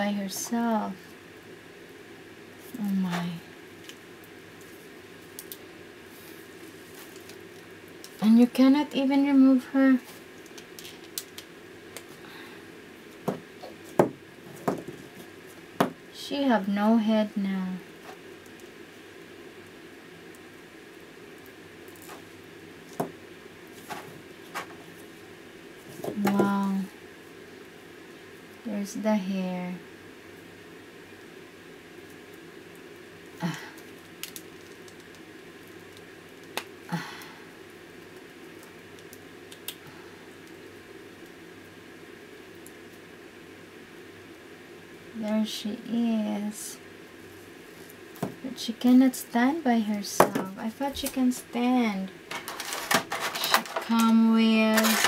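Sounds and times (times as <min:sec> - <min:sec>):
low room hum: 0:00.0 - 0:55.0.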